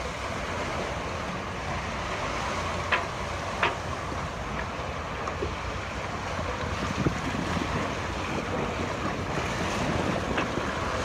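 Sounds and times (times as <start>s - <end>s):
water splashing past hull: 0.0s - 11.0s
wind buffeting microphone: 0.0s - 11.0s.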